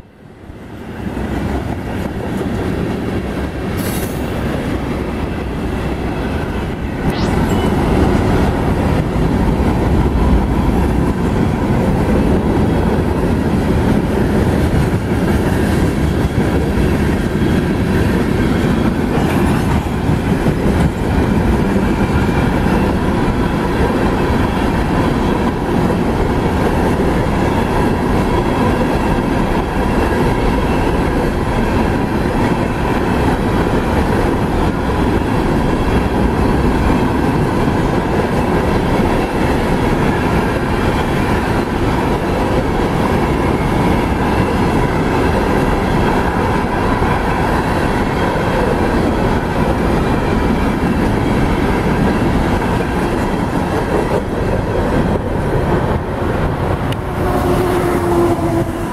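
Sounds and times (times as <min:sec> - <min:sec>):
freight train wheels on rails: 0:00.0 - 0:58.9.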